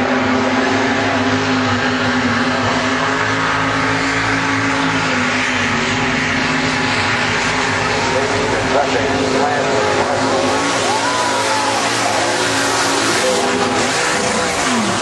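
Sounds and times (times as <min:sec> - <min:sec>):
engine running at high revs: 0:00.0 - 0:15.0.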